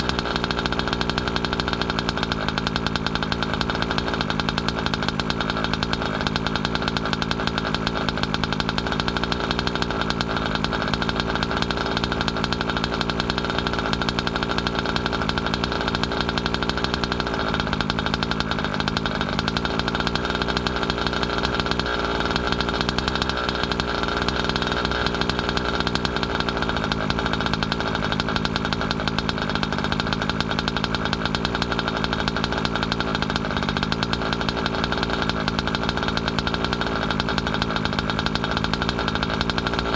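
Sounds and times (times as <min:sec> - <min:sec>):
two-stroke rc car engine running: 0:00.0 - 0:39.9.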